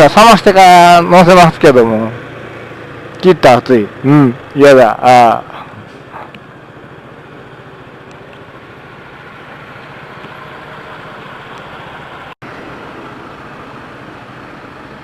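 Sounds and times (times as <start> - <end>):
road and traffic noise: 0.0 - 15.0
scooter engine running: 1.2 - 15.0.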